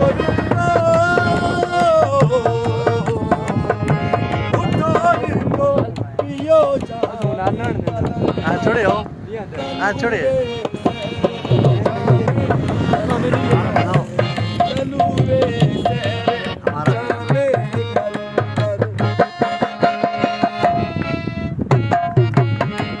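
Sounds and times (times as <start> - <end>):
song with steady drum rhythm: 0.0 - 9.0, 9.8 - 23.0.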